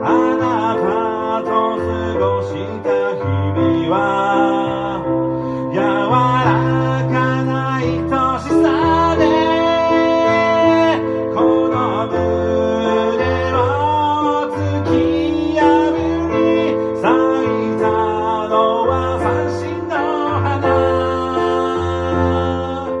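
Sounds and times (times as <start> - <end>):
electronic keyboard playing: 0.0 - 23.0.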